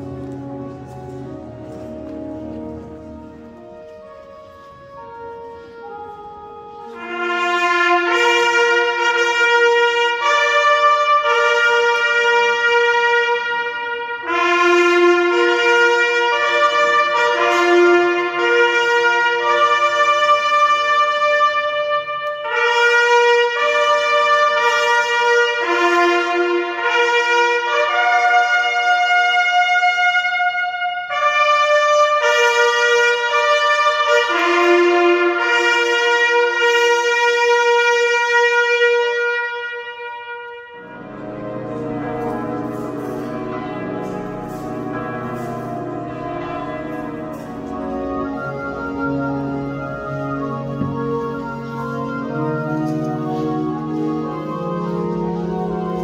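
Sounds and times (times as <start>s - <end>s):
church bells ringing: 0.0s - 56.0s
trumpets playing a fanfare: 0.0s - 56.0s.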